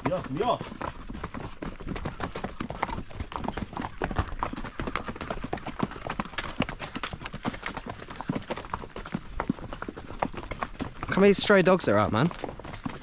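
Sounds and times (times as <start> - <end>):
horse hooves on dirt: 0.0 - 13.0.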